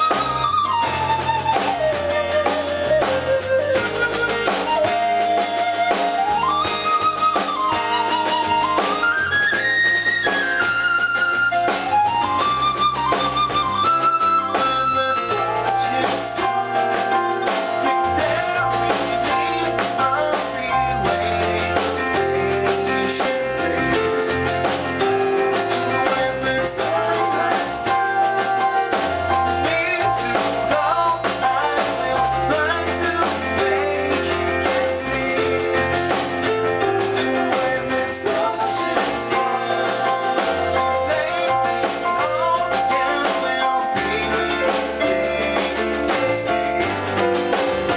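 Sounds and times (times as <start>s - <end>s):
rock band playing: 0.0s - 47.9s
sustained keyboard notes: 0.0s - 47.9s.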